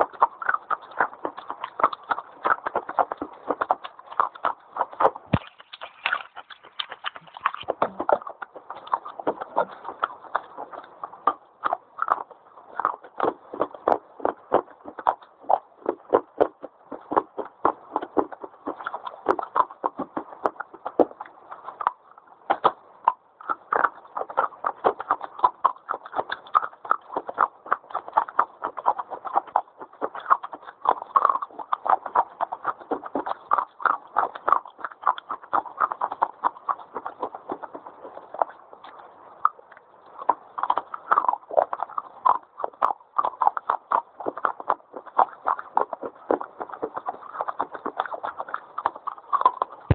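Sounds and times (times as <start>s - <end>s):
crunchy chewing of clay: 0.0s - 49.9s.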